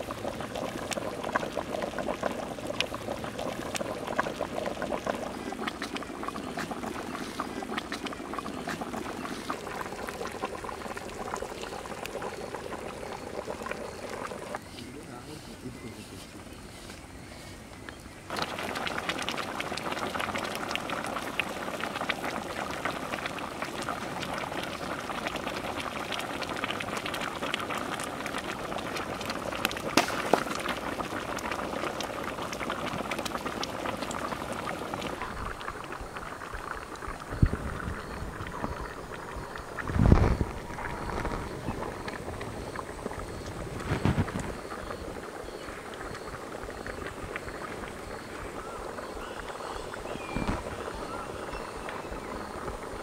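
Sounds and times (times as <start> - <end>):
curry boiling and bubbling: 0.0 - 15.6, 16.2 - 53.0.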